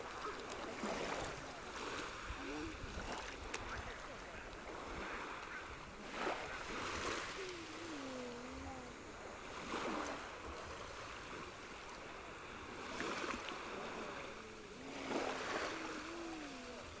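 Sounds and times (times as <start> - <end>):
loud swimming splashes: 0.0 - 17.0
sea water splashing and lapping: 0.0 - 17.0.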